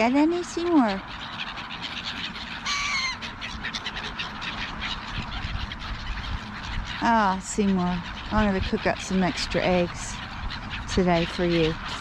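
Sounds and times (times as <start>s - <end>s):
birds chirping and ticking: 0.0s - 12.0s
harsh bird call: 0.0s - 12.0s.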